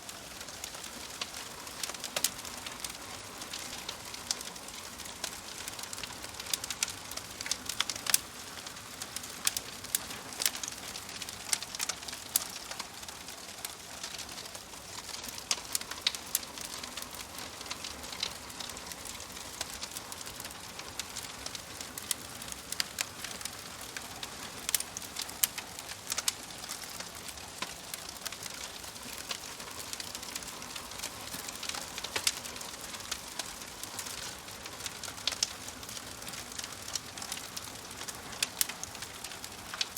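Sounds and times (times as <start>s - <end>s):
fire crackling and popping: 0.0s - 39.9s
soft hiss of fire: 0.0s - 39.9s.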